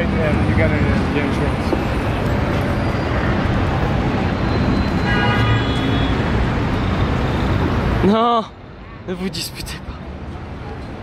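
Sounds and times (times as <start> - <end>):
rumble of passing vehicles: 0.0 - 11.0.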